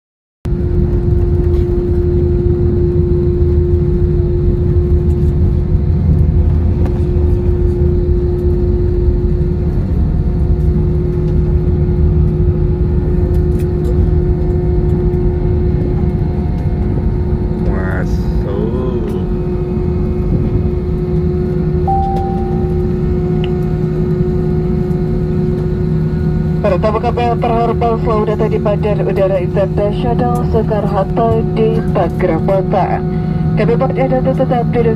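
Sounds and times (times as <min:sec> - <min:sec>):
constant cabin hum: 0:00.5 - 0:34.9
low rumble of engines and airflow: 0:00.5 - 0:34.9.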